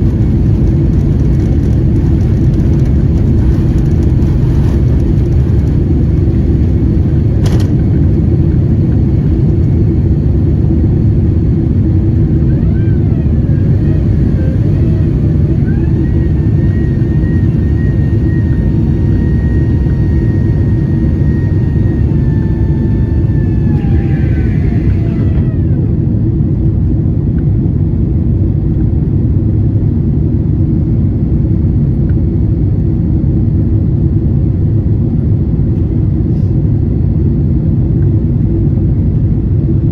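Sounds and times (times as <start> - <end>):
jet engine cabin rumble: 0.0 - 39.9
jet engine whine: 0.0 - 39.9.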